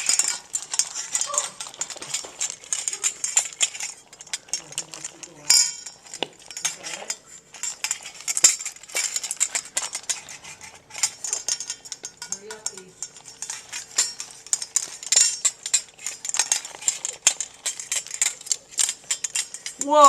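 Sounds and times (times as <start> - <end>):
dog eating from bowl: 0.0 - 20.0.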